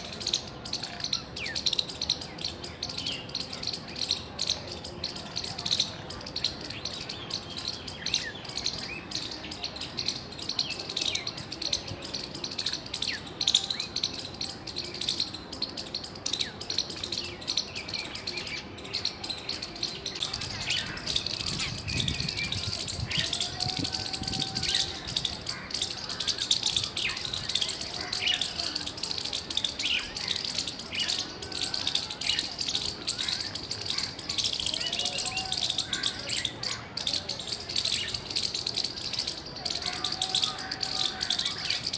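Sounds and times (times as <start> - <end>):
squirrel chirping: 0.0 - 41.9.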